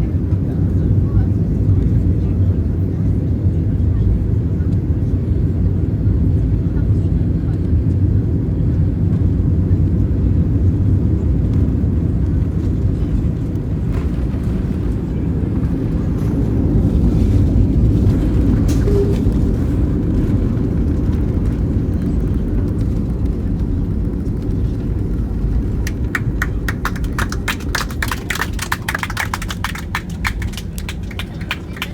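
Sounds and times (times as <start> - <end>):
airliner cabin rumble: 0.0 - 31.9.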